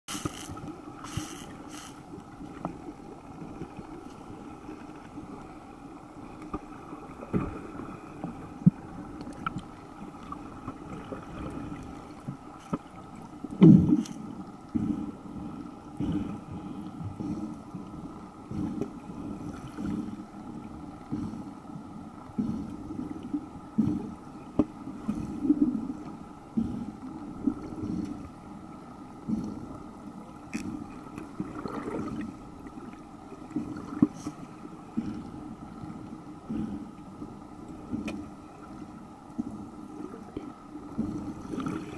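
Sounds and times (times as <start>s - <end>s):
faint steady hum: 0.1s - 41.9s
water sloshing underwater: 0.1s - 41.9s.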